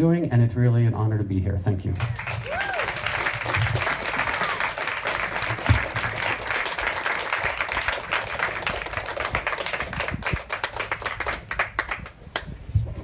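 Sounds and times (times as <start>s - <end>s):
audience applauding: 2.0s - 12.5s.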